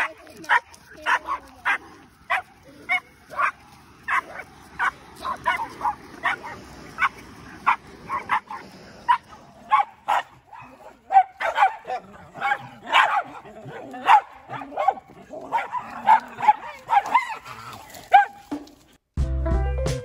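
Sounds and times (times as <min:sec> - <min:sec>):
small dogs yapping: 0:00.0 - 0:18.5.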